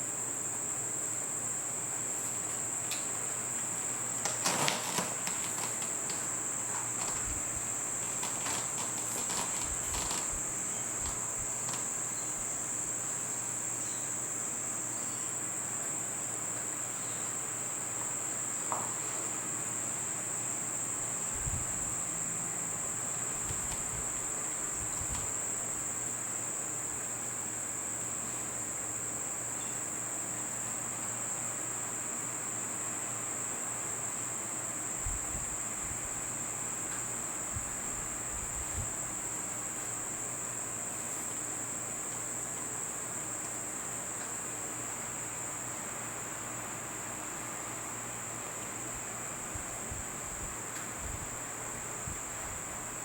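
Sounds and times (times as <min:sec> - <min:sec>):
high-pitched insect trill: 0:00.0 - 0:53.0.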